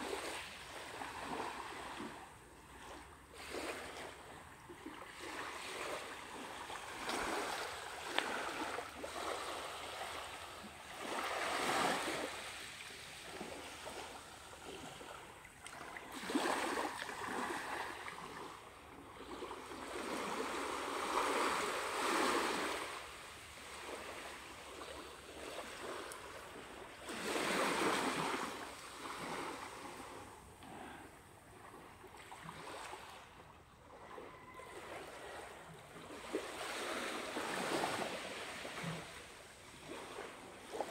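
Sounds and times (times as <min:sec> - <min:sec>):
small waves washing on shore: 0:00.0 - 0:40.9.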